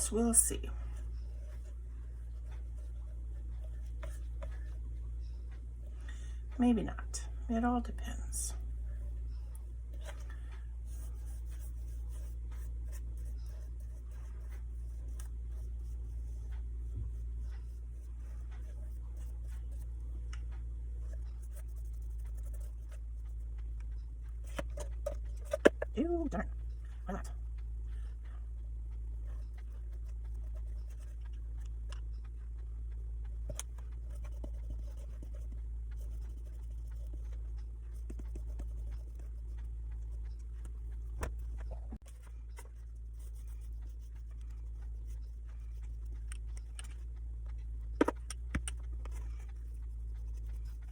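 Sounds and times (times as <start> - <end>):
paintbrush strokes on wood: 0.0 - 6.0, 8.3 - 20.3, 20.9 - 28.4, 29.0 - 31.9, 33.5 - 47.0, 49.0 - 50.9
steady low hum: 0.0 - 50.9
small ticks and click: 8.5 - 50.9.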